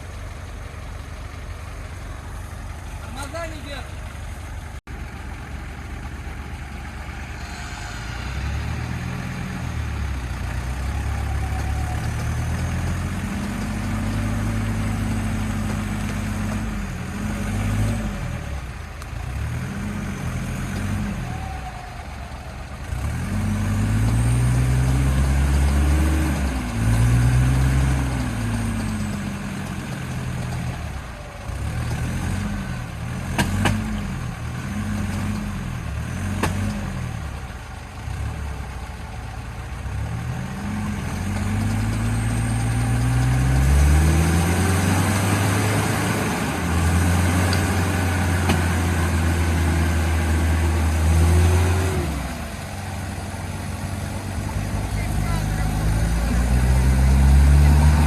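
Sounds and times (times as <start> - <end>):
suv engine revving: 6.6 - 58.0.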